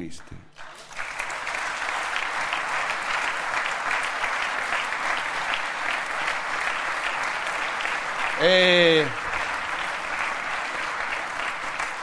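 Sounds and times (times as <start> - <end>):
large audience applauding: 0.6 - 12.0.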